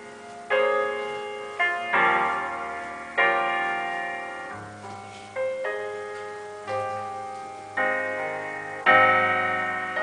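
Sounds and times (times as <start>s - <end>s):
piano chords through loudspeaker: 0.0s - 10.0s.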